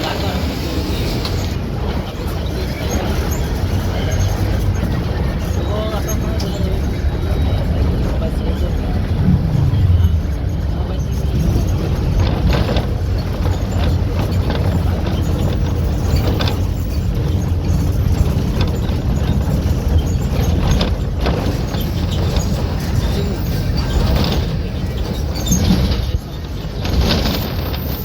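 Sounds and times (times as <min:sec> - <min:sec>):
bus engine droning: 0:00.0 - 0:28.0
body rattles and knocks: 0:01.5 - 0:28.0.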